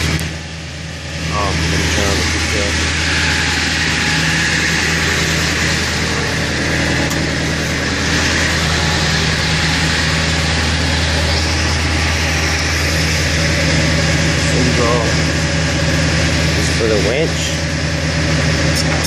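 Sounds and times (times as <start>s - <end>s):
truck engine at raised idle: 0.0s - 19.0s.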